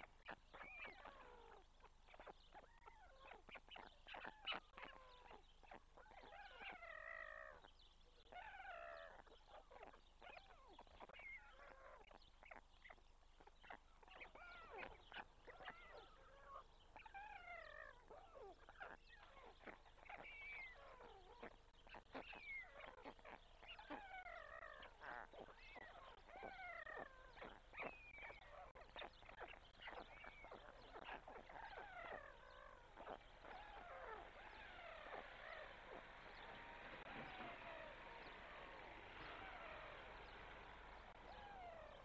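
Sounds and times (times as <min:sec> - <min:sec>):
stork chicks begging calls: 0:00.0 - 0:42.0.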